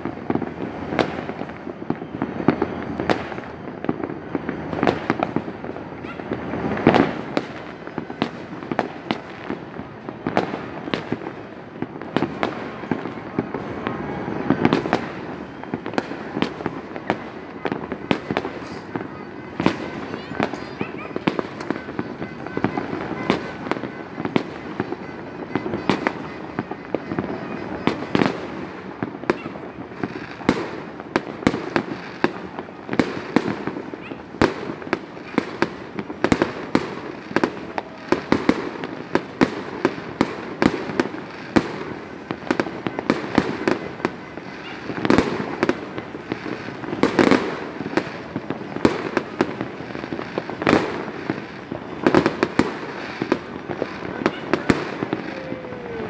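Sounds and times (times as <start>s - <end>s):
firecracker sharp cracks: 0.0s - 56.0s
fireworks bangs and pops: 0.0s - 56.0s.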